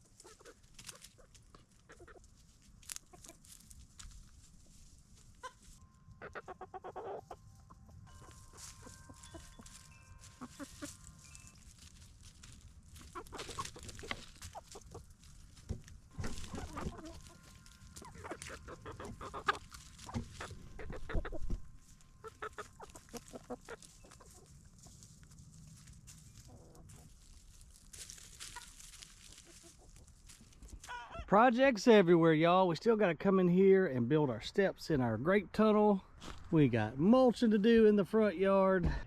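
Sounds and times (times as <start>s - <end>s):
chickens clucking: 0.0s - 31.3s.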